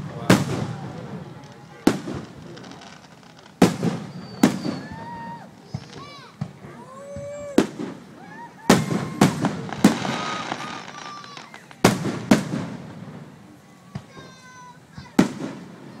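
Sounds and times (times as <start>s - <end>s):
firework bangs: 0.0s - 16.0s
firework crackling: 0.0s - 16.0s.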